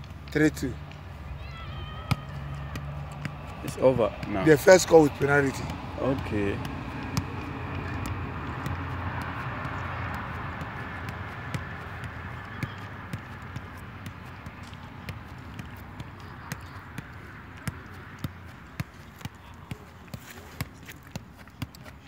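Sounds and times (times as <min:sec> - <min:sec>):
boot tapping football: 0:02.0 - 0:22.0.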